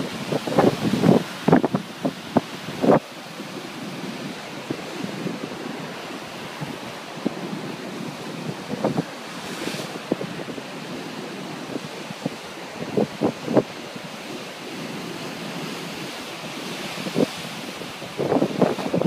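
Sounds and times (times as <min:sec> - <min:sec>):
waves breaking against a wall: 0:00.0 - 0:19.0
wind buffeting microphone: 0:00.0 - 0:19.0.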